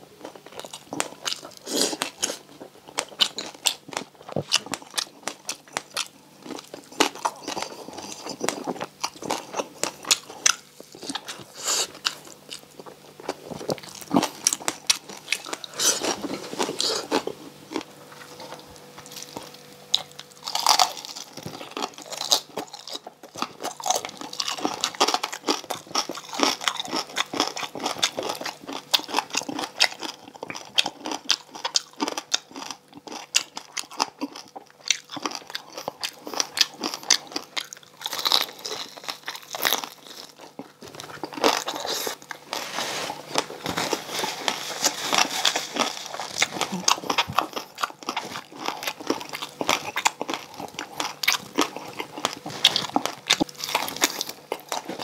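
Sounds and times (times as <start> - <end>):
crunchy chewing of fried pork: 0.0 - 55.0.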